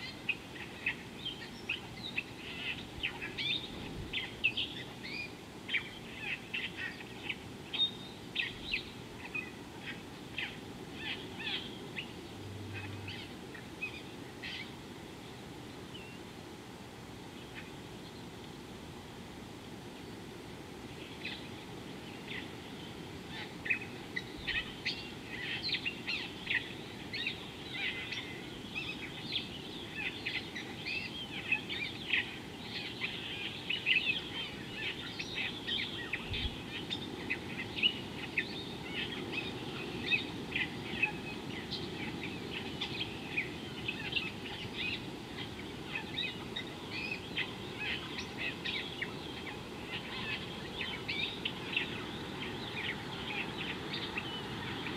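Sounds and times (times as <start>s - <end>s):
small birds chirping: 0.0s - 16.3s, 19.9s - 54.9s
steady low background noise: 0.0s - 54.9s.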